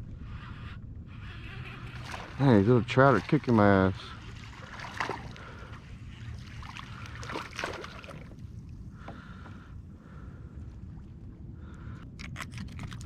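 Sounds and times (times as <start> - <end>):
water: 0.0 - 13.0
wind: 0.0 - 13.0.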